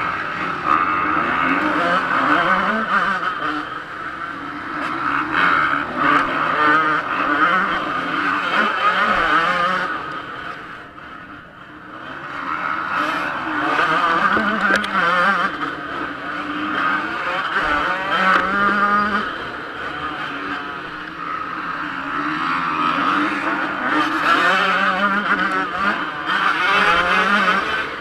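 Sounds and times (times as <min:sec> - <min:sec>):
motocross engine revving: 0:00.0 - 0:28.0
other motocross bikes: 0:00.0 - 0:28.0.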